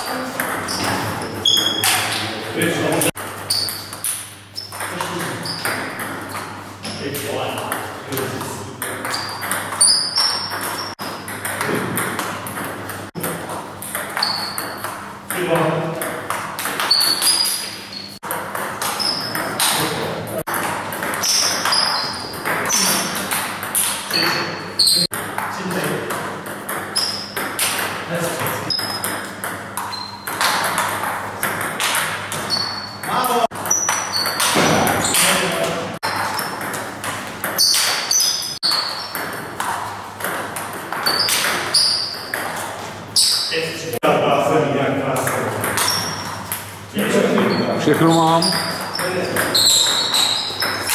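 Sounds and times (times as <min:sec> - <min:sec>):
table tennis ball hits: 0:00.1 - 0:02.2, 0:02.9 - 0:43.5, 0:45.2 - 0:46.6, 0:48.4 - 0:50.9.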